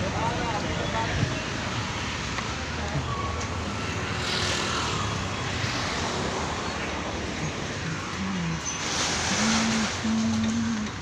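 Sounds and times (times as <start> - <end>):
street traffic passing: 0.0 - 11.0.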